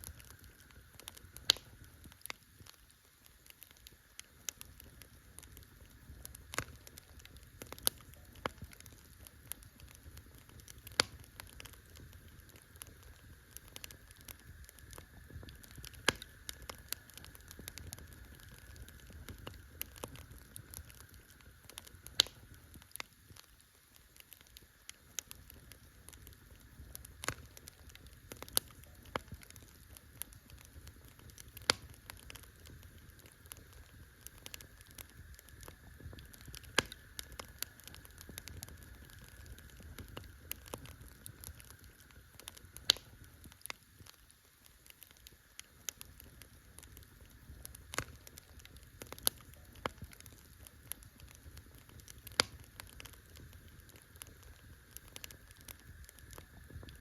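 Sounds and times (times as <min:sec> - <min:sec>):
sharp fire pops: 0:00.0 - 0:02.8, 0:03.4 - 0:57.0
campfire crackling: 0:00.0 - 0:57.0.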